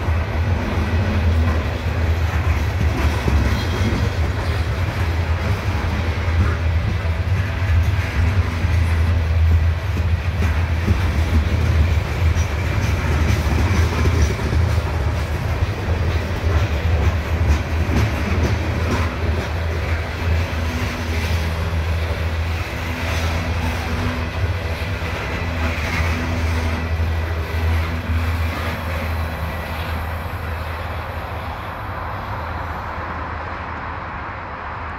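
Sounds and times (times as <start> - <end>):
wheels clicking over rail joints: 0.0 - 29.9
train cars rumbling past: 0.0 - 34.9.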